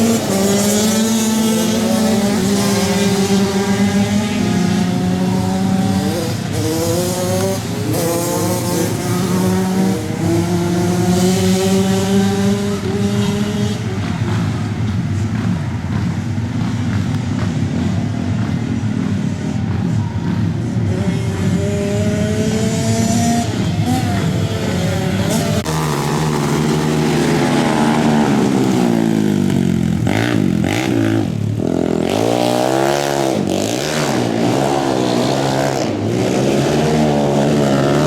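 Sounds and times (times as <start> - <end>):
off-road racing engines revving: 0.0 - 38.0.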